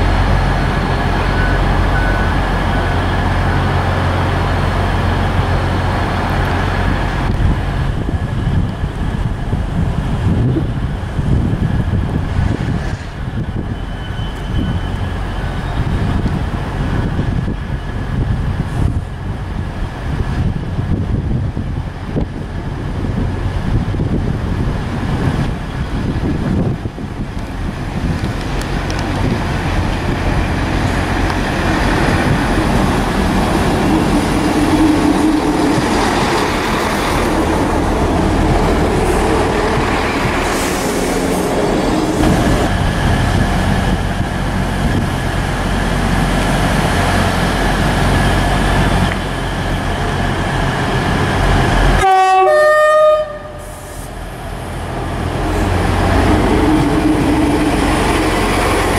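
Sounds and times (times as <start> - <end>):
train wheels rolling on rails: 0.0 - 52.1, 53.2 - 58.9
diesel train engine running: 0.0 - 58.9.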